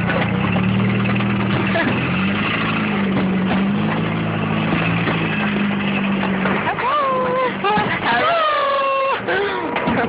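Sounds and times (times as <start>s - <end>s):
engine running with low drone: 0.0s - 10.0s.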